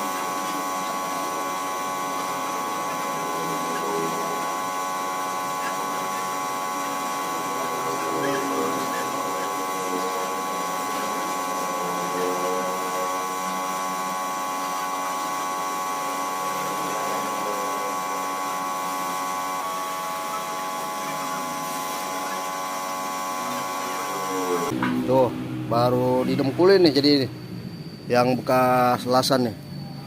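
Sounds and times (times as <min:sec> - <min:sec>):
power tool motor whining: 0:00.0 - 0:27.7.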